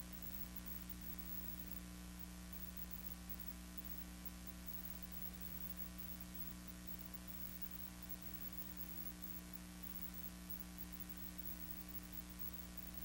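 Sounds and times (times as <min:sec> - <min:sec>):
electrical hum: 0:00.0 - 0:13.0
faint hiss: 0:00.0 - 0:13.0.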